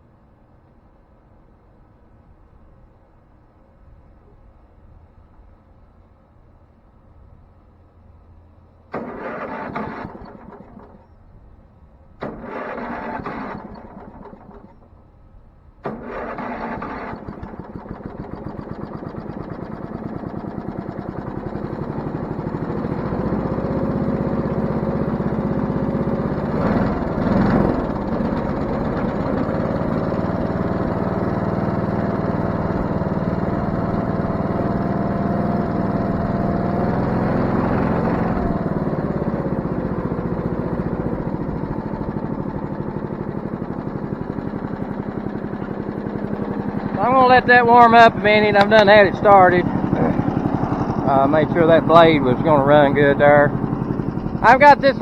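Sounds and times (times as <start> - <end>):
sawmill engine cranking: 8.9 - 11.1, 12.2 - 15.0, 15.8 - 55.0
sawmill engine running: 8.9 - 11.1, 12.2 - 15.0, 15.8 - 55.0.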